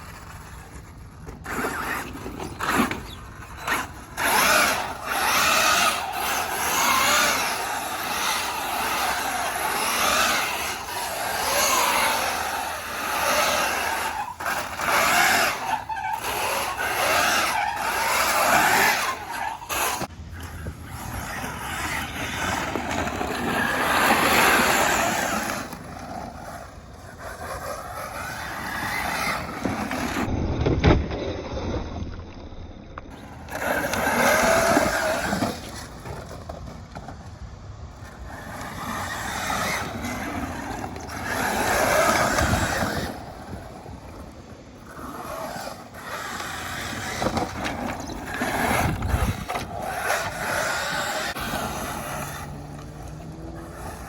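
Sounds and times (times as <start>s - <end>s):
electric motors whining: 0.0s - 30.3s, 33.0s - 36.4s, 37.9s - 54.0s
tyres scrabbling on dirt: 0.0s - 32.2s, 33.0s - 54.0s.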